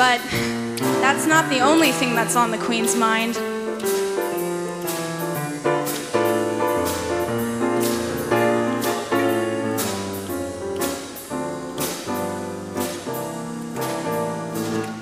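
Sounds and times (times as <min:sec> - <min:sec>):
piano instrumental music: 0:00.0 - 0:15.0.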